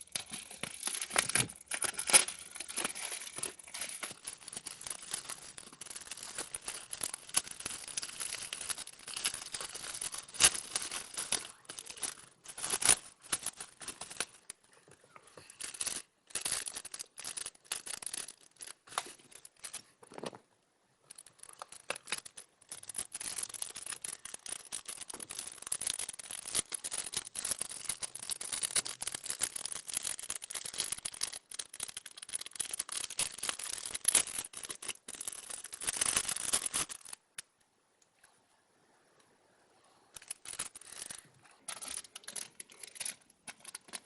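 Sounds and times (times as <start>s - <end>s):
hands crinkling and rustling materials: 0.0s - 38.4s, 40.1s - 44.0s.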